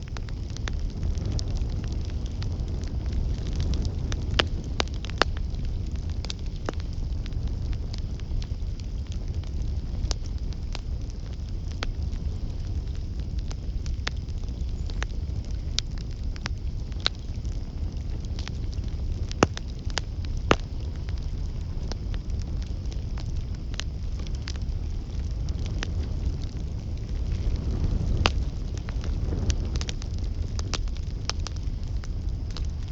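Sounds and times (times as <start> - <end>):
campfire flames rumbling: 0.0 - 32.9
wood crackling and popping: 0.0 - 32.9.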